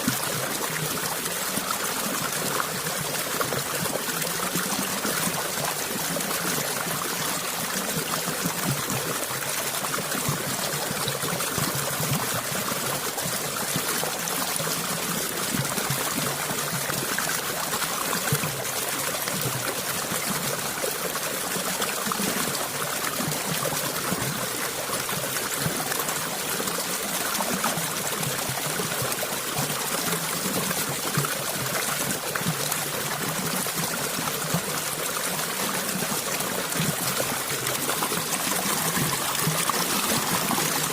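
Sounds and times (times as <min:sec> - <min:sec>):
stream water over stones: 0:00.0 - 0:40.9.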